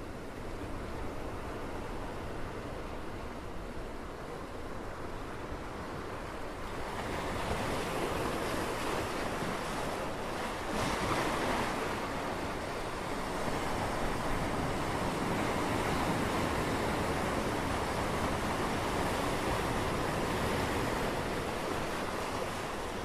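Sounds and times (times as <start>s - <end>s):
ocean waves washing: 0.0s - 23.0s.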